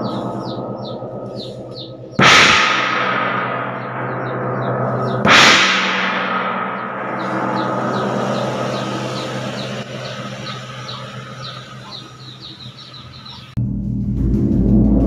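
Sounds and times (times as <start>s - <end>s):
gong crash and ringing: 0.0s - 15.0s.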